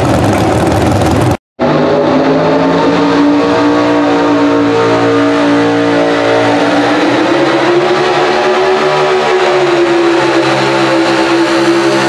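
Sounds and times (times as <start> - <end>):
racing engine at high revs: 0.0 - 12.0.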